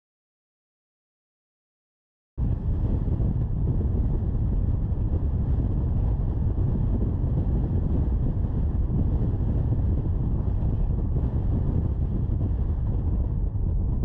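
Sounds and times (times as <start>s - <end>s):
car engine and tyre rumble: 2.4s - 14.0s
wind buffeting microphone: 2.4s - 14.0s.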